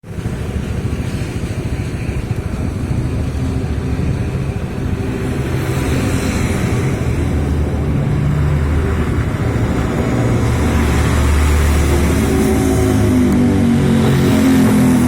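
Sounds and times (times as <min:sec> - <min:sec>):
diesel bus engine growling exhaust: 0:00.0 - 0:15.0.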